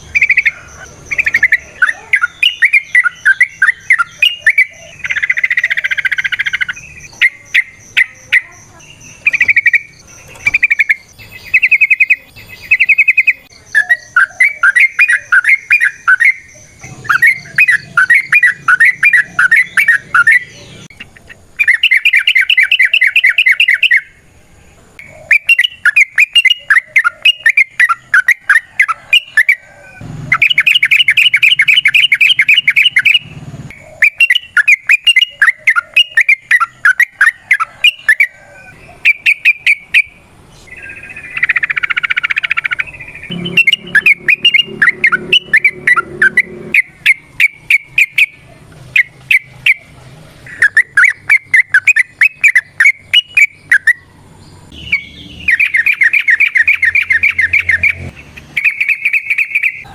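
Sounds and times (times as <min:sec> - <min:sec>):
bulbul singing chattering phrases: 0:00.0 - 0:59.9.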